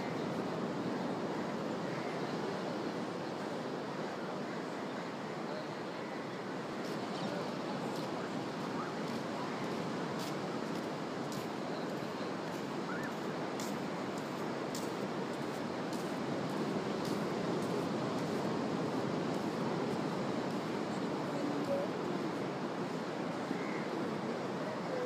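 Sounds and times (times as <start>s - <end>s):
ocean surf on beach: 0.0s - 25.0s.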